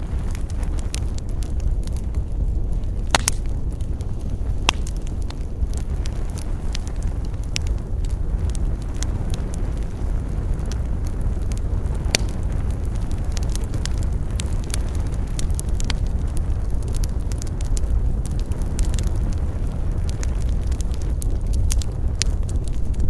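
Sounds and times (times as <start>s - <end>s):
campfire crackling and popping: 0.0s - 23.0s
fire low rush: 0.0s - 23.0s.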